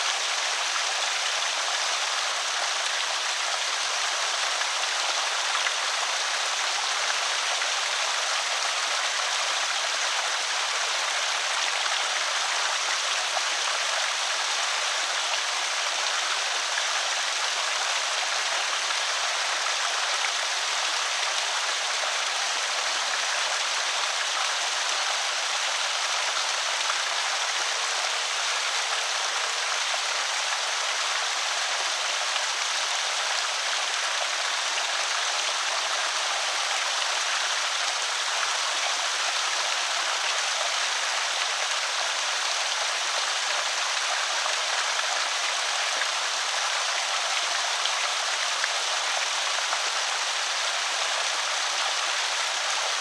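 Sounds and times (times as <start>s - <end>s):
water pouring over spillway: 0.0s - 53.0s.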